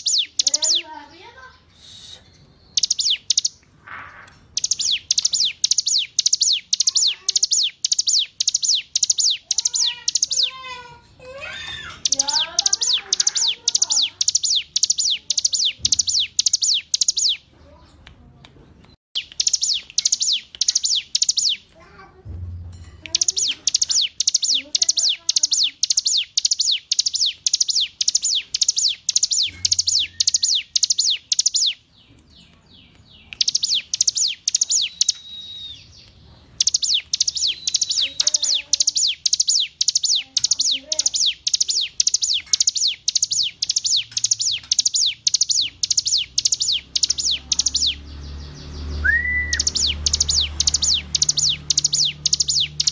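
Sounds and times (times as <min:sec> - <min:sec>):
bird singing high repeated notes: 0:00.0 - 0:10.7, 0:11.5 - 0:17.5, 0:19.2 - 0:21.7, 0:23.1 - 0:32.1, 0:32.7 - 0:52.9.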